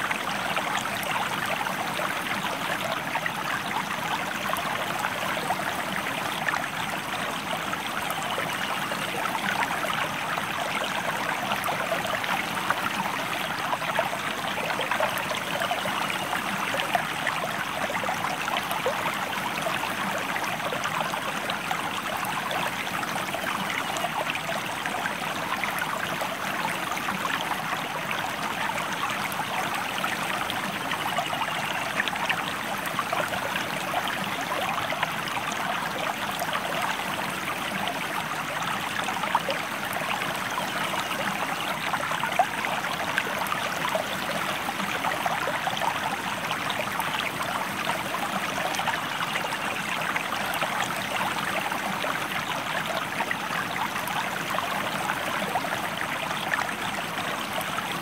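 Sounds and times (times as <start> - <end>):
stream of water flowing: 0.0 - 58.0.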